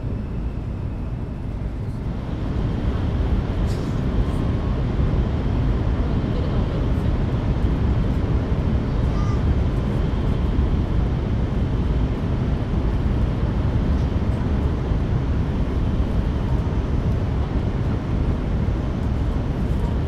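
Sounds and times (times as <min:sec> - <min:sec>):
high-speed train rumble and rush: 0:00.0 - 0:20.0.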